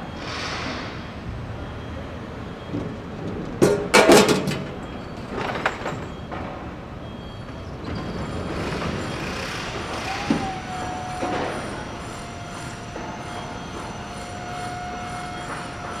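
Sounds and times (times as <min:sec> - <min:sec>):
construction site hum: 0:00.0 - 0:16.0.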